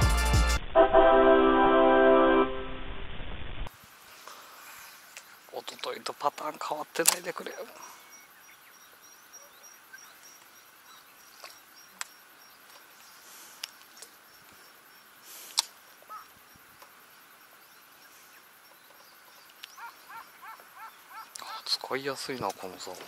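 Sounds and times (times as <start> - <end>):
faint outdoor hiss: 3.7 - 23.0.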